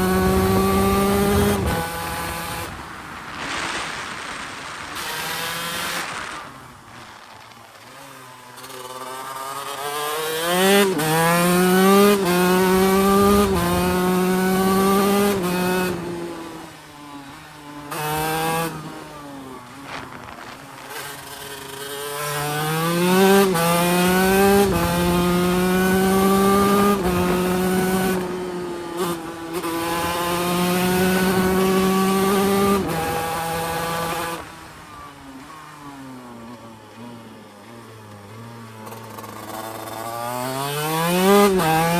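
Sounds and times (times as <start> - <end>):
two-stroke engine accelerating: 0.0 - 3.2, 4.9 - 41.9.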